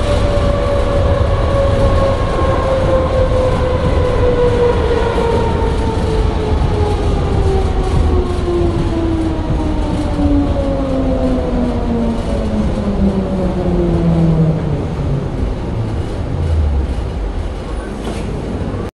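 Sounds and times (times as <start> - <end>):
tram drive whine: 0.0 - 18.9
tram wheels rumbling on rails: 0.0 - 18.9.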